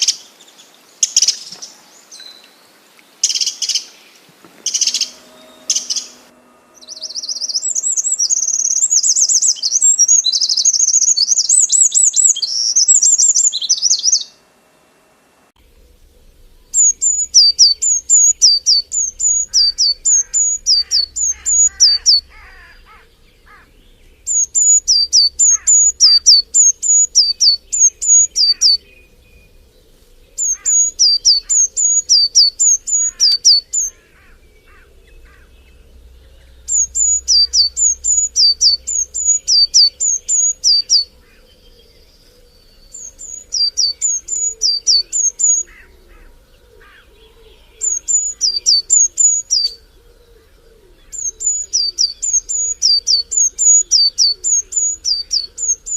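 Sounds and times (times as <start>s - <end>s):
faint bird chirps: 0.0s - 14.4s, 15.6s - 55.9s
bird rapid high-pitched calls: 4.6s - 14.4s, 16.2s - 49.9s, 51.0s - 55.9s.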